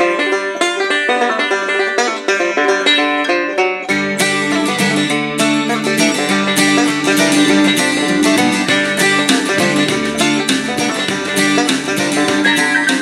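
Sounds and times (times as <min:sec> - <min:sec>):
acoustic guitar music from radio speaker: 0:00.0 - 0:13.0.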